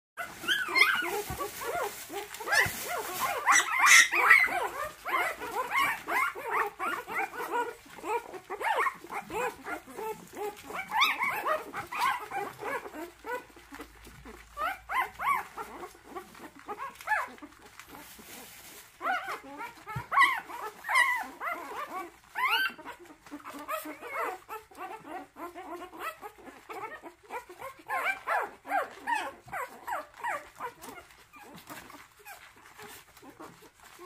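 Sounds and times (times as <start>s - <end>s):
puppies whining and squeaking: 0.2s - 34.0s.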